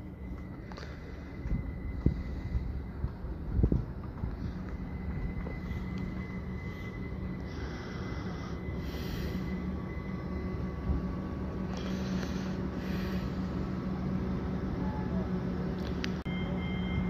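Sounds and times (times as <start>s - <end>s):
electric train rumbling past: 0.0s - 17.0s.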